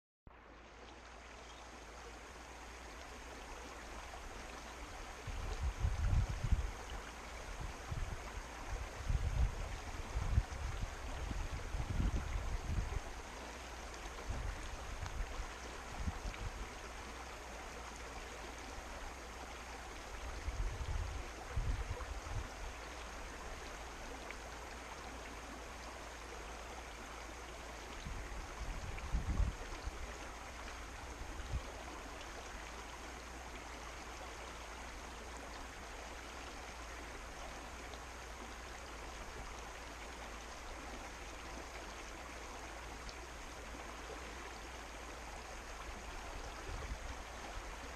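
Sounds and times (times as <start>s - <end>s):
mountain creek flowing: 0.3s - 47.9s.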